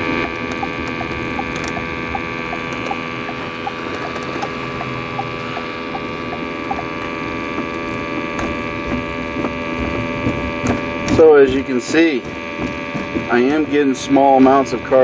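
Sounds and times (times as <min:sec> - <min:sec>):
car cabin hum while driving: 0:00.0 - 0:15.0.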